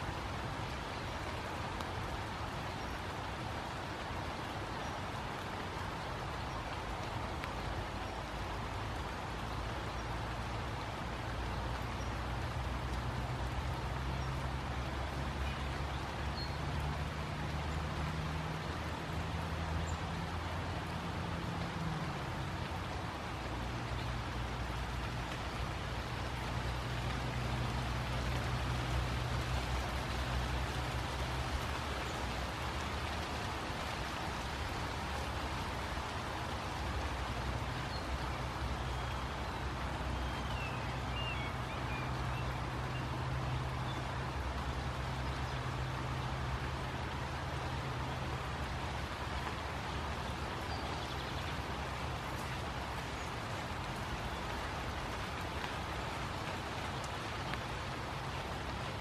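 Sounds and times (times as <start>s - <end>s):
distant city traffic hum: 0.0s - 59.0s
light rain on foliage: 0.0s - 59.0s.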